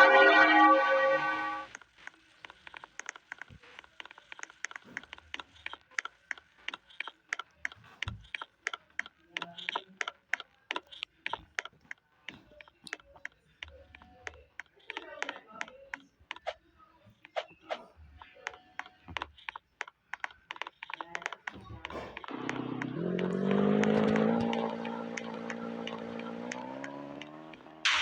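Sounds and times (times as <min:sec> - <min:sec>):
rapid sharp clicks: 0:01.7 - 0:16.6, 0:18.3 - 0:28.0.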